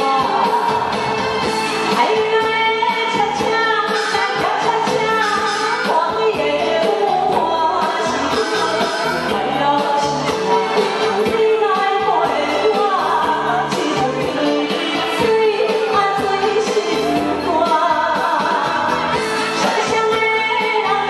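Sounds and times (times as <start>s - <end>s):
woman singing into microphone: 0.0s - 1.0s, 1.9s - 21.0s
loud backing music: 0.0s - 21.0s.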